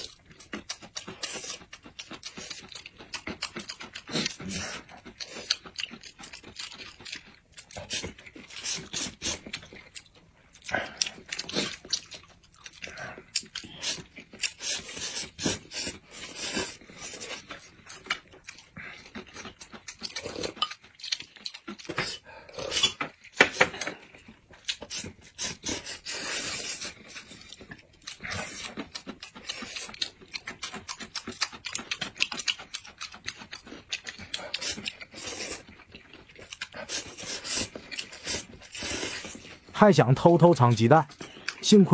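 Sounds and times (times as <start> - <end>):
noodles slurped and chewed: 0.0 - 41.9.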